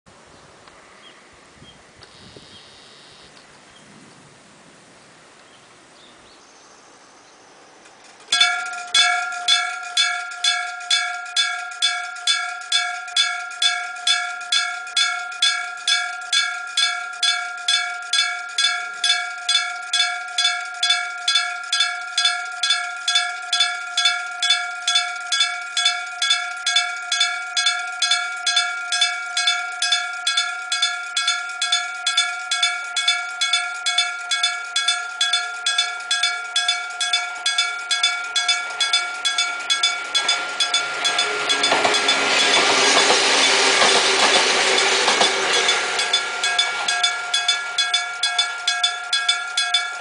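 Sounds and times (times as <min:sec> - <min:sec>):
railroad crossing bell clanging: 0:08.0 - 0:50.0.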